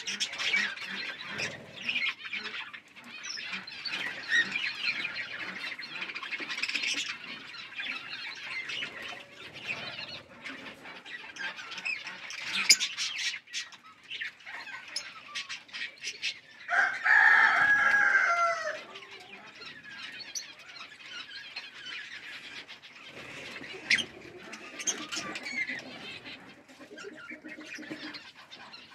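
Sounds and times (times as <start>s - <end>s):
pet birds chirping: 0.0s - 28.9s.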